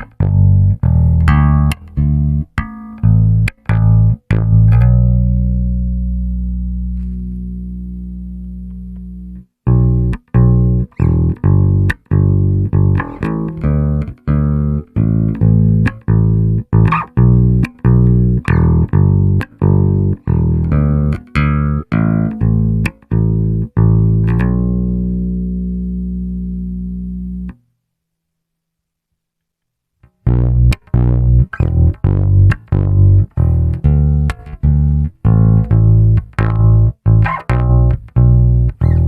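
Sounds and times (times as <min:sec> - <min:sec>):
electric bass plucked notes: 0:00.0 - 0:27.6, 0:30.0 - 0:39.0.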